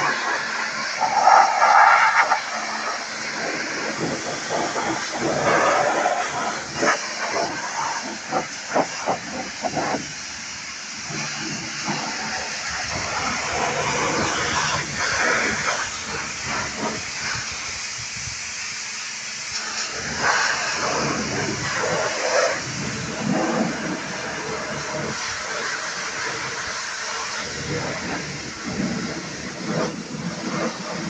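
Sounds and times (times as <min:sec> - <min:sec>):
high-pressure water jet hissing: 0:00.0 - 0:31.0.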